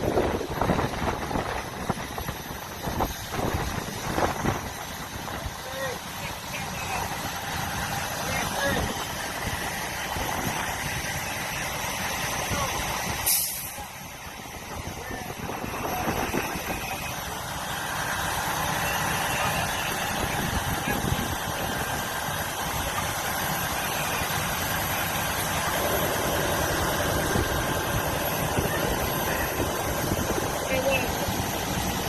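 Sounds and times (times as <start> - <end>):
fire truck engine running: 0.0 - 32.0.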